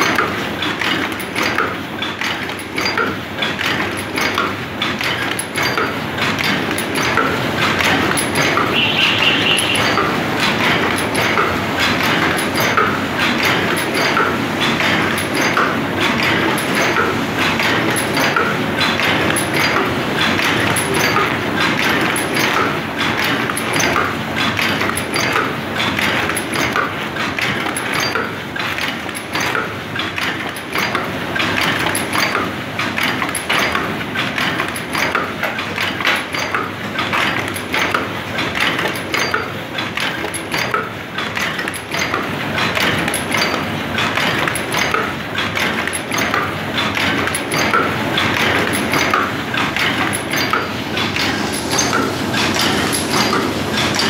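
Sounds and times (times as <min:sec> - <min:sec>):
machine fast mechanical clatter: 0:00.0 - 0:54.0.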